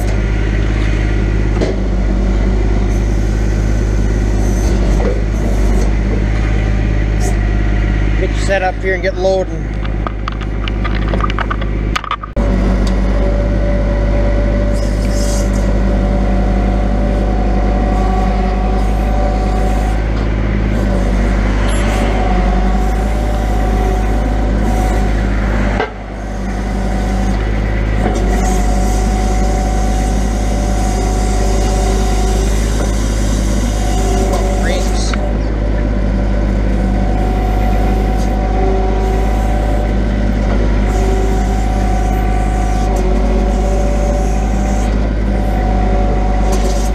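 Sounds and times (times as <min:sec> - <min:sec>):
hydraulic whining: 0:00.0 - 0:46.9
truck engine hum: 0:00.0 - 0:46.9.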